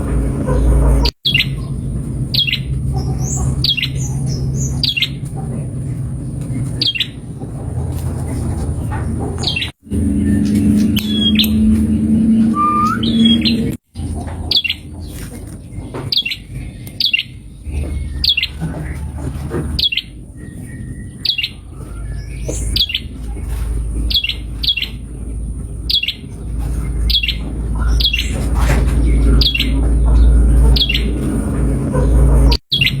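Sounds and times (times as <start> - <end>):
low rumble: 0.0 - 14.2, 17.5 - 32.6
songbird chirping: 0.1 - 33.0.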